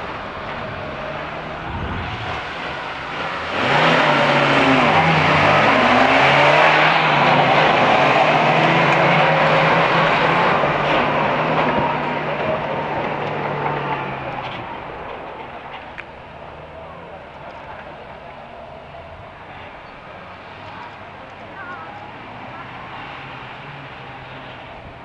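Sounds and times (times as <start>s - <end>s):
off-road vehicles accelerating hard: 0.0s - 25.0s.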